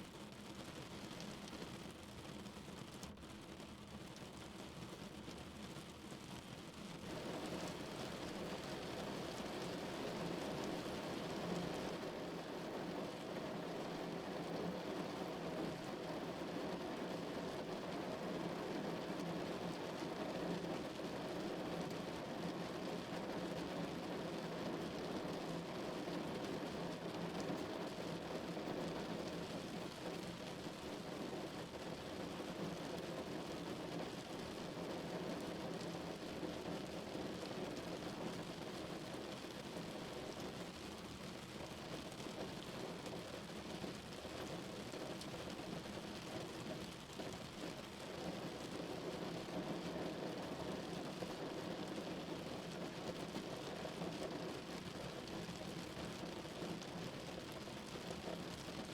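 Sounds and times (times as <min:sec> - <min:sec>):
rain on a car roof: 0:00.0 - 0:58.9.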